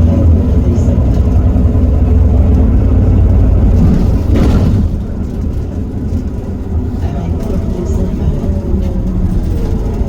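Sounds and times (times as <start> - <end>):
bus diesel engine drone: 0.0 - 10.0
drivetrain whine: 0.0 - 10.0.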